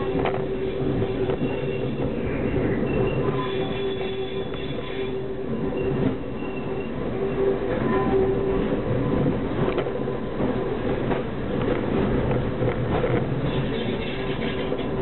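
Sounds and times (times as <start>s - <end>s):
train engine hum: 0.0s - 15.0s
train wheels rumbling: 0.0s - 15.0s.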